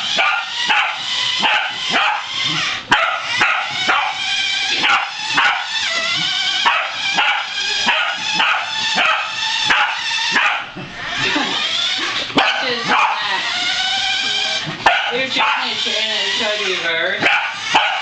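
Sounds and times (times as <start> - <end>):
dog barking and yipping: 0.0 - 11.7, 12.3 - 13.6, 14.7 - 16.3, 17.2 - 18.0.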